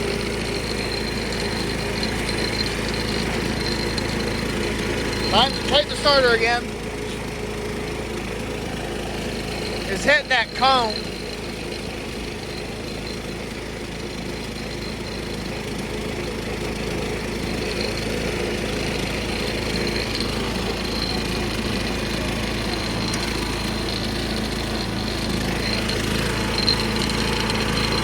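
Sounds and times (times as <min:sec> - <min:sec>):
riding lawn tractor engine running: 0:00.0 - 0:28.0.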